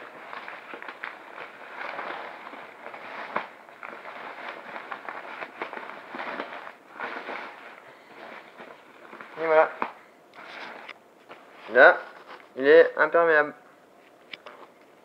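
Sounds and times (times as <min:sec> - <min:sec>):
nylon cover rustling and crinkling: 0:00.0 - 0:12.7.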